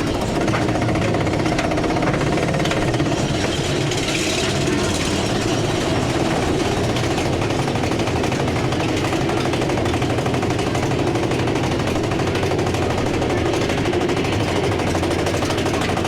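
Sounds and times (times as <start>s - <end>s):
roller coaster clattering on track: 0.0s - 16.0s.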